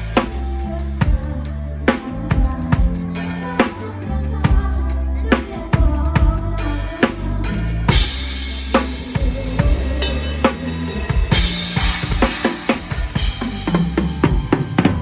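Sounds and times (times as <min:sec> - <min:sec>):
drum kit playing: 0:00.0 - 0:15.0
held bass line: 0:00.0 - 0:15.0.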